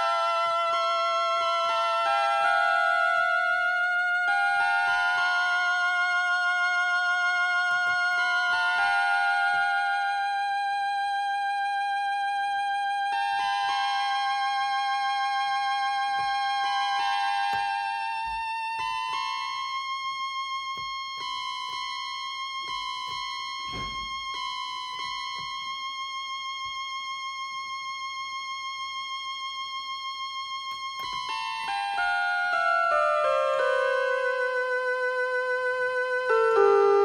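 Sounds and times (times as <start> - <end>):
instrumental music with violin-like lead: 0.0 - 37.0.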